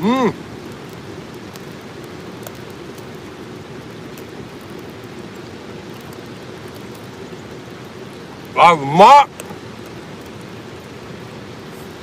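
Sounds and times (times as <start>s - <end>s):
fish sizzling on a grill: 0.0s - 12.0s
small crackles and pops: 0.0s - 12.0s.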